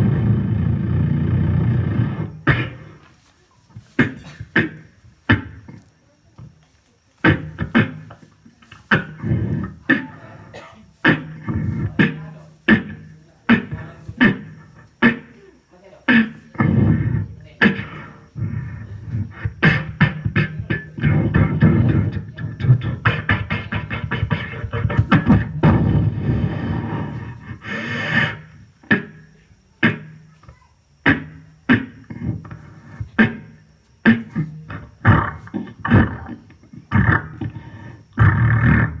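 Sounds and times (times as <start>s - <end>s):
beatboxing: 0.0s - 6.6s, 7.2s - 39.0s.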